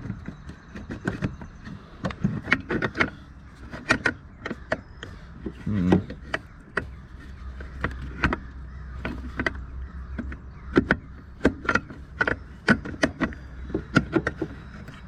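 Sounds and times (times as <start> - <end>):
hand tools clicking and knocking: 0.0 - 15.0
steady low hum: 0.0 - 15.0.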